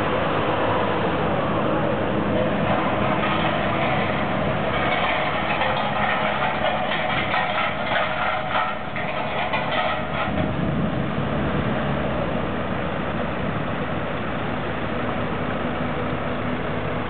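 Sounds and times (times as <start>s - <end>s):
engine rattling: 0.0s - 17.0s
heavy engine running: 0.0s - 17.0s.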